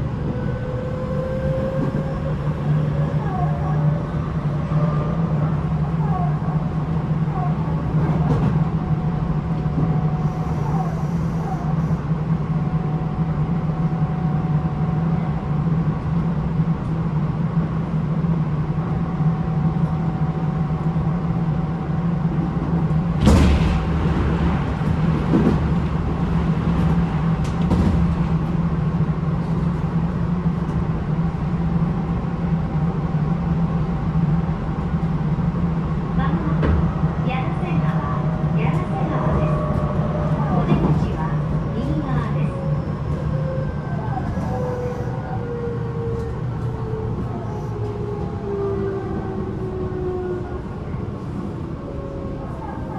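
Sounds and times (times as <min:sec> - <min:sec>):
train interior low rumble: 0:00.0 - 0:52.9.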